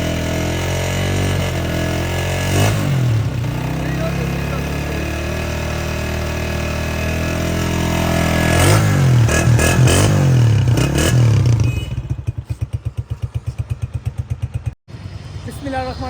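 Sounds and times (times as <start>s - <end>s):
motorcycle engine revving: 0.0s - 16.0s
motorcycle idling exhaust putts: 0.0s - 16.0s.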